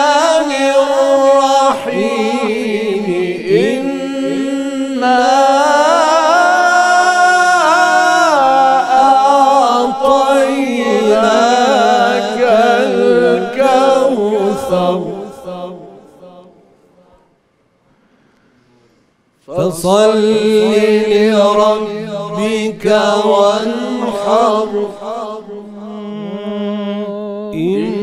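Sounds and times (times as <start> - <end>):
men chanting together: 0.0 - 16.5, 19.5 - 25.5.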